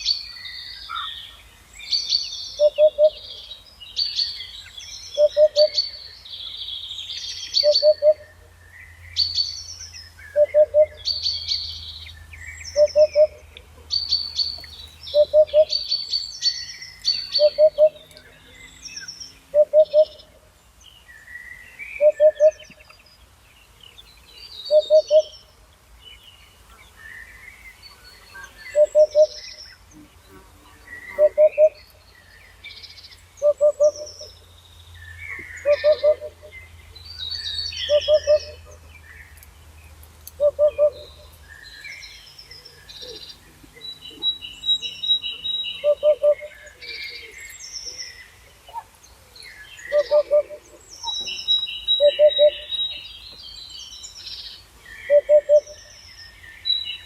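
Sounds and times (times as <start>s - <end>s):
birds chirping and warbling: 0.0s - 57.0s.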